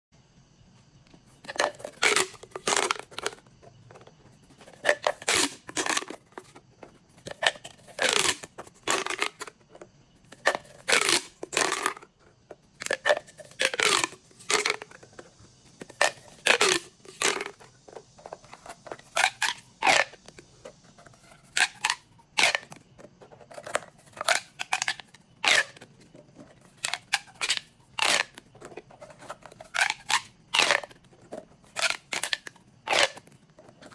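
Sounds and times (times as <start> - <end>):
plastic tubes crackling zip: 1.4 - 12.1, 12.8 - 33.9.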